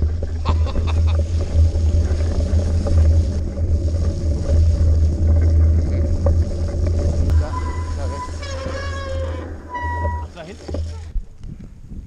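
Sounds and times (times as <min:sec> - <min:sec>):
mountain bike rolling on mud: 0:00.0 - 0:11.7
wind buffeting microphone: 0:00.0 - 0:12.0.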